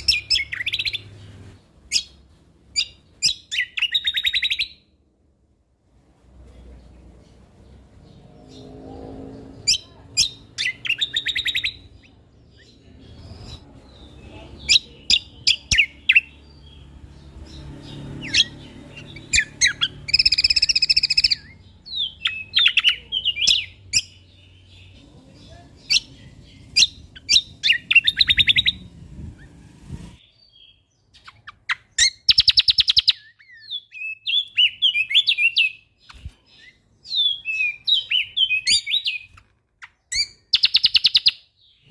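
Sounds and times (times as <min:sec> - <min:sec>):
songbird chirps and trills: 0:00.0 - 0:41.9.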